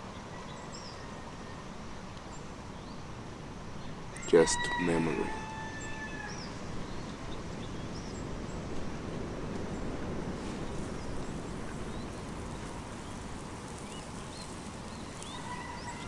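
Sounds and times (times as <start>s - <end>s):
rushing background hiss: 0.0s - 16.0s.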